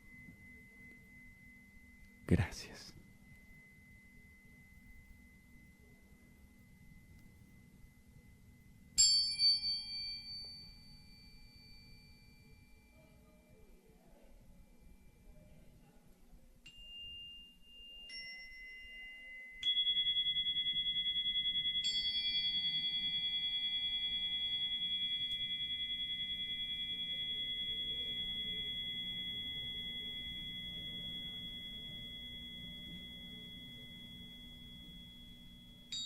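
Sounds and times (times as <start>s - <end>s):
metal chimes ringing: 0.0s - 15.8s, 16.6s - 36.0s.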